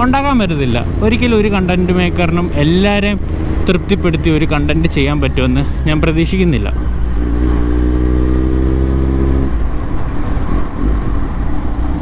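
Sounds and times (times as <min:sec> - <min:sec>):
motorcycle engine revving: 0:00.0 - 0:12.0
wind and road noise: 0:00.0 - 0:12.0.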